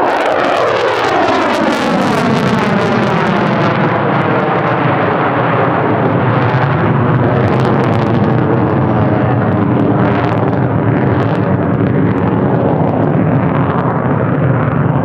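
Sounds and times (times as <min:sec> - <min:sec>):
jet engine passing low: 0:00.0 - 0:15.0.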